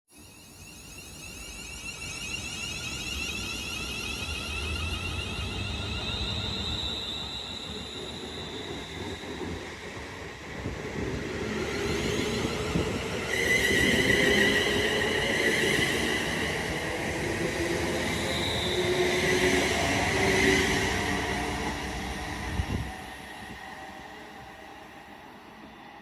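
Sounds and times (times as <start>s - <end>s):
high whining tones: 0.2s - 24.0s.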